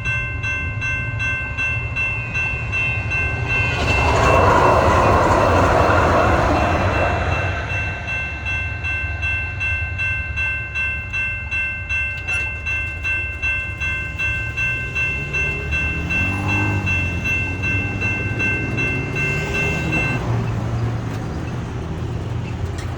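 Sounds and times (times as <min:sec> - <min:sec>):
crossing signal bells ringing: 0:00.0 - 0:22.9
train rumbling past: 0:00.0 - 0:22.9
road vehicles pulling away: 0:01.4 - 0:09.2, 0:12.2 - 0:22.9.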